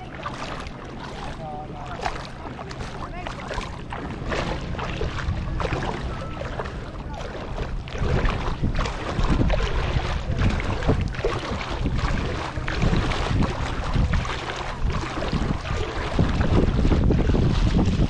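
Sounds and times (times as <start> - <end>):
water splashing and lapping: 0.0 - 18.0
wind buffeting microphone: 0.0 - 18.0.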